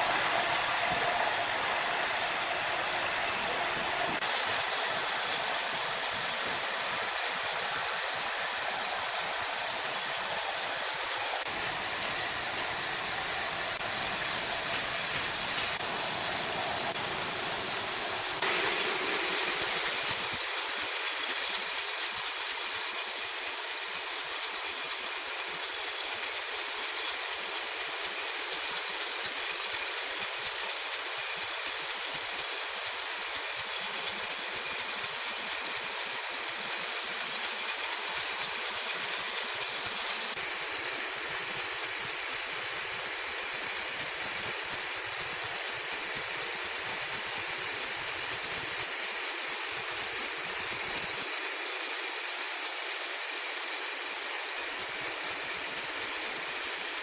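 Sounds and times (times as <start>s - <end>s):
hissing rattling machinery: 0.0s - 57.0s.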